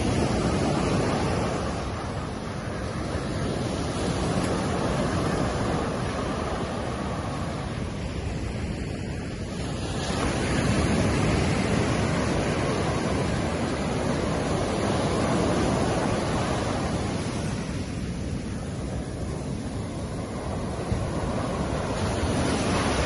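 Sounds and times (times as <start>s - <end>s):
ocean waves breaking on sand: 0.0s - 23.0s.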